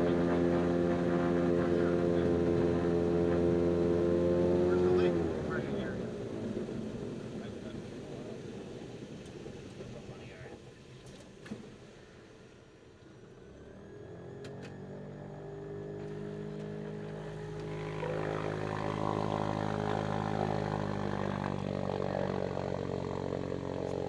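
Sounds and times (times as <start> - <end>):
propeller engine drone: 0.0 - 24.0.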